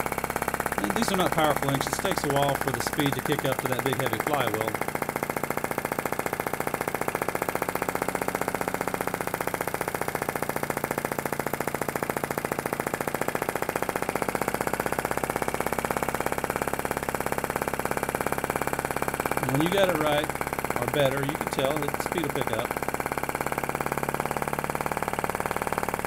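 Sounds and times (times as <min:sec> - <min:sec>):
model engine clicking: 0:00.0 - 0:26.0.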